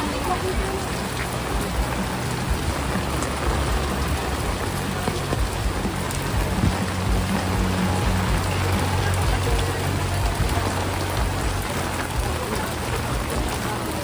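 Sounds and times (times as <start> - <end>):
low steady hum: 0.0 - 13.7
heavy rain falling: 0.0 - 14.0.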